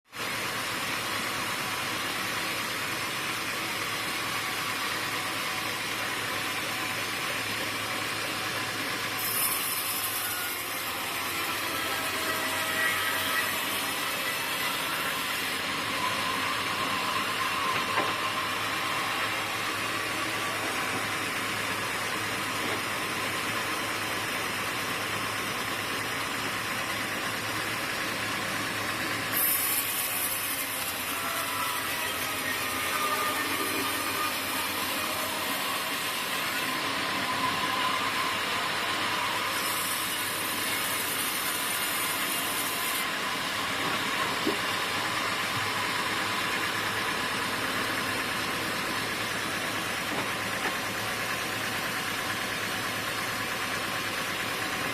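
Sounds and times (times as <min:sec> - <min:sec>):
sawmill machinery running: 0:00.1 - 0:54.9.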